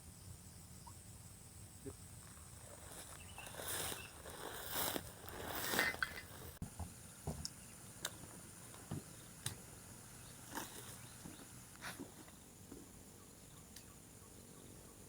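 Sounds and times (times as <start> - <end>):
faint insect drone: 0.0 - 15.0.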